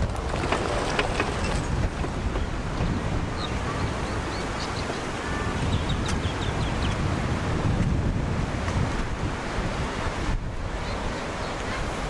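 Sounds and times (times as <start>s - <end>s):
surf breaking on beach: 0.0s - 12.0s
wind on microphone: 0.0s - 12.0s.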